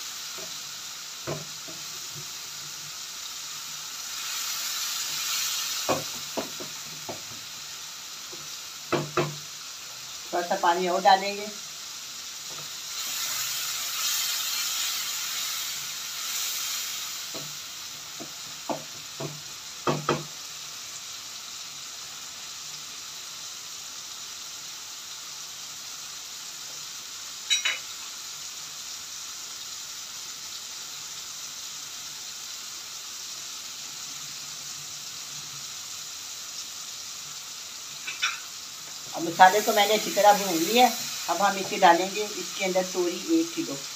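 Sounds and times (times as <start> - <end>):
masala sizzling in hot oil: 0.0 - 43.9.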